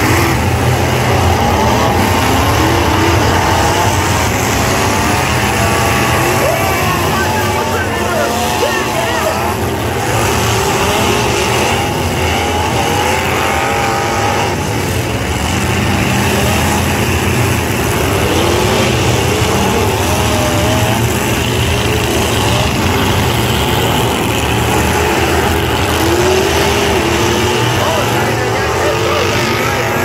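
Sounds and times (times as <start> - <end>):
truck engines revving: 0.0 - 30.0.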